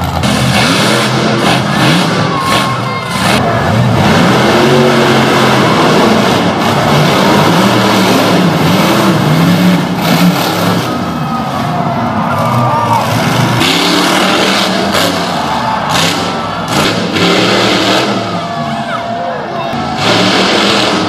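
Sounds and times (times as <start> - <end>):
truck engines revving hard: 0.0 - 21.0.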